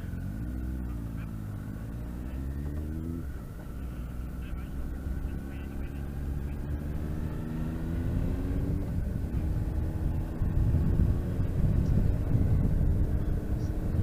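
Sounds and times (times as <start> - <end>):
motorcycle engine accelerating: 0.0 - 14.0
wind and road noise: 0.0 - 14.0.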